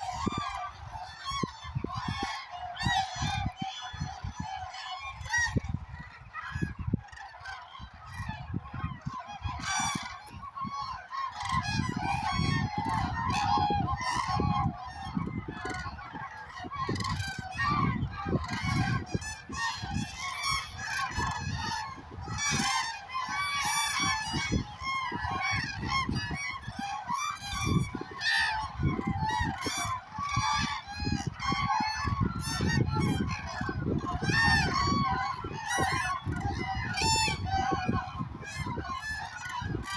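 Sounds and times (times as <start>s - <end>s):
cranes trumpeting calls: 6.2s - 39.9s.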